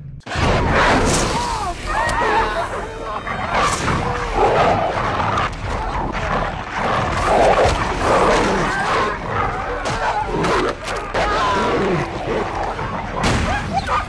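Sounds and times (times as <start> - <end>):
wolves growling and snarling: 2.6 - 14.0.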